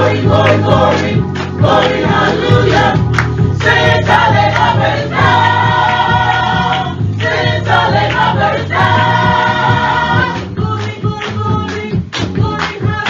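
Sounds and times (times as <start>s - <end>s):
gospel choir singing: 0.0s - 13.0s.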